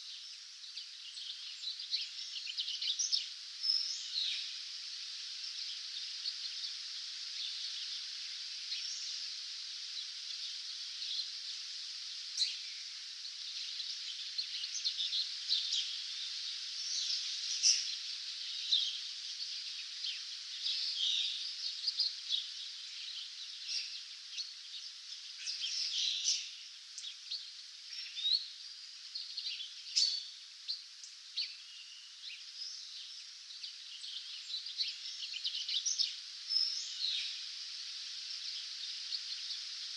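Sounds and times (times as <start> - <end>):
songbirds chirping and trilling: 0.0 - 39.9
steady high hiss: 0.0 - 39.9.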